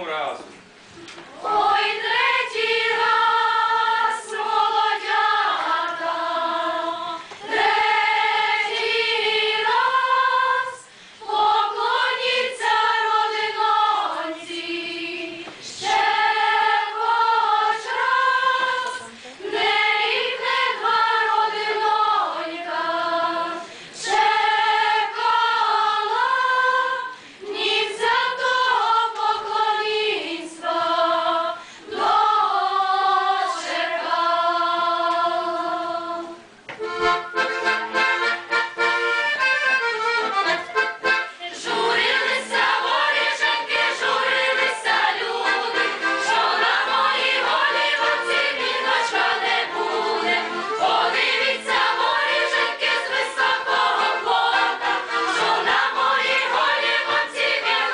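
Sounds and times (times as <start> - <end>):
choir singing unaccompanied: 1.3 - 57.9.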